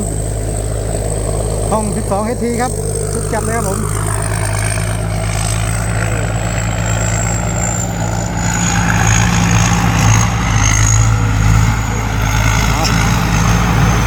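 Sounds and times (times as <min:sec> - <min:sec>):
combine harvester engine humming: 0:00.0 - 0:14.0
thin high whine: 0:00.0 - 0:14.0.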